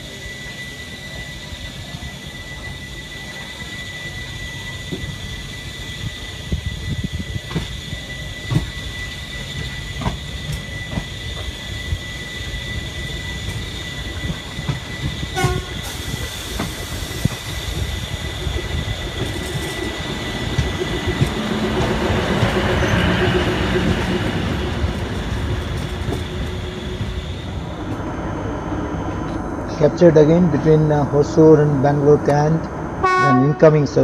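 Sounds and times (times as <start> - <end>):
diesel engine: 0.0 - 34.0
steady high tone: 0.0 - 34.0
train rolling rumble: 0.0 - 34.0.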